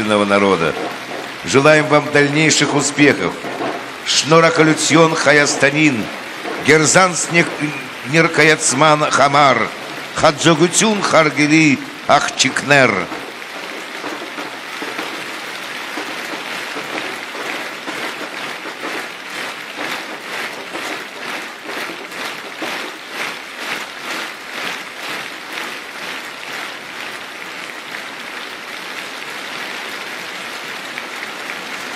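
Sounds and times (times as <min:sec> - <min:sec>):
audience applauding: 0:00.0 - 0:31.9.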